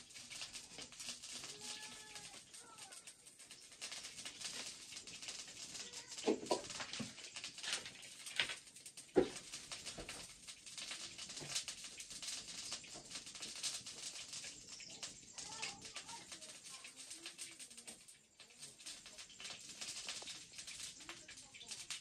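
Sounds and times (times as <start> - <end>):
wood fire crackling and hissing: 0.0 - 22.0.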